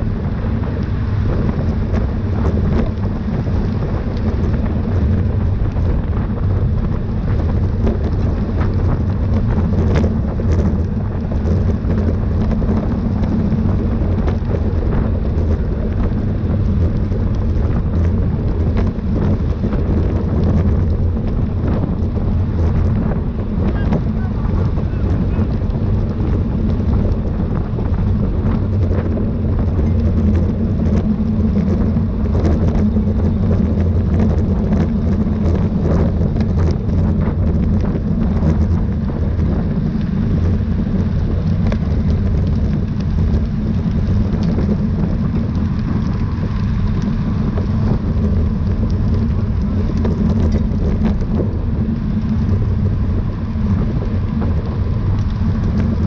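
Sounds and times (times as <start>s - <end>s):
bicycle tyre road noise: 0.0s - 56.0s
wind on microphone: 0.0s - 56.0s.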